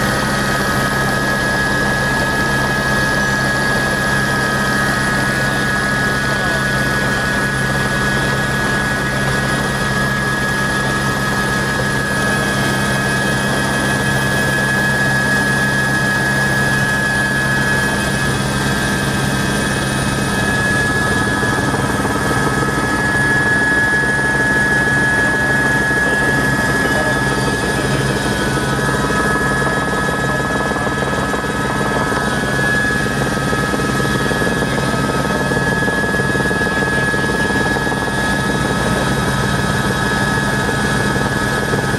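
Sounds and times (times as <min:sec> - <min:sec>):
helicopter turbine whine and rotor drone: 0:00.0 - 0:41.9.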